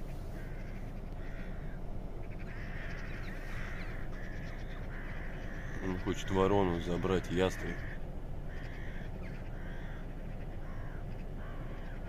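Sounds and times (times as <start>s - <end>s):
crows cawing: 0.0s - 12.0s
steady low rumble: 0.0s - 12.0s.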